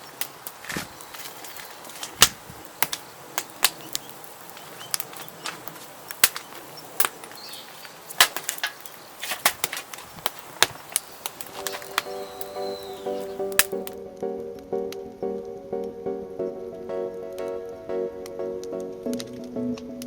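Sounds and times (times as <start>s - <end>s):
wood fire crackling: 0.0s - 16.0s, 17.0s - 20.0s.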